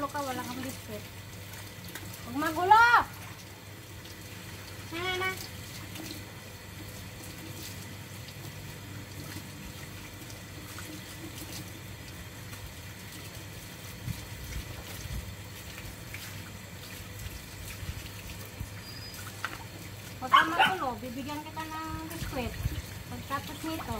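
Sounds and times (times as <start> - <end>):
running and splashing water: 0.0 - 23.9.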